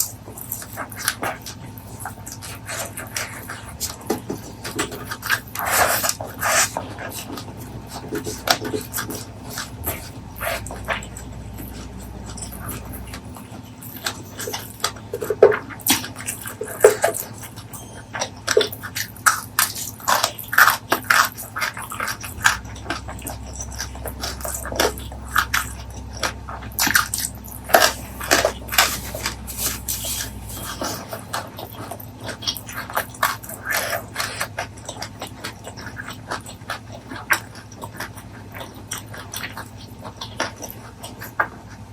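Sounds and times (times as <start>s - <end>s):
person chewing: 0.0s - 41.9s.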